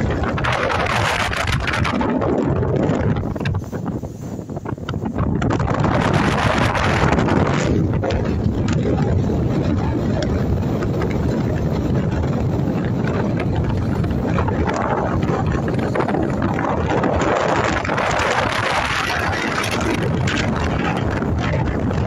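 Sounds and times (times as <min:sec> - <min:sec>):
sea washing along hull: 0:00.0 - 0:22.0
ship rumble: 0:00.0 - 0:22.0
wind buffeting microphone: 0:00.0 - 0:22.0.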